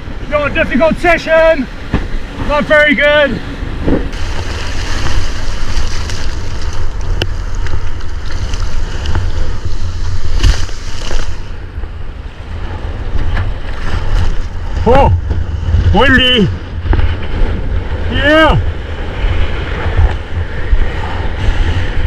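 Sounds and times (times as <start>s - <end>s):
sea surf washing: 0.0s - 22.0s
wind buffeting microphone: 0.0s - 22.0s.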